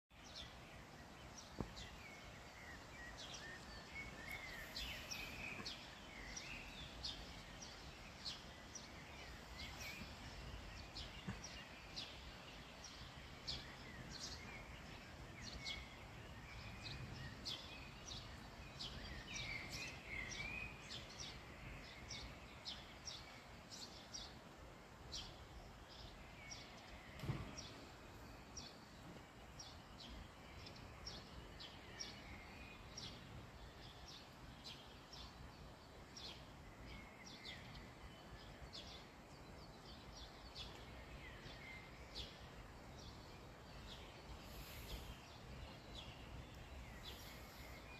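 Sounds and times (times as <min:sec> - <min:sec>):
birds chirping and warbling: 0:00.1 - 0:47.9
steady background hiss: 0:00.2 - 0:47.9.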